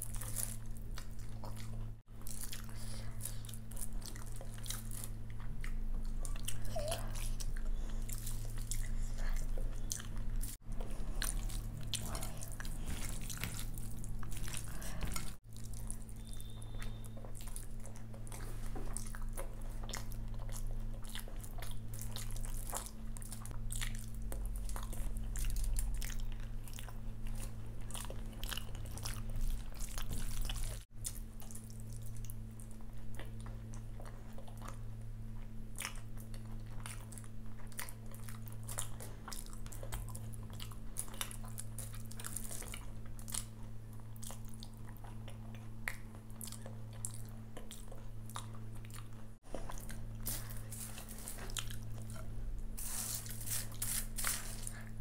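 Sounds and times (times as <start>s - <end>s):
wet chewing with lip smacks: 0.0s - 55.0s.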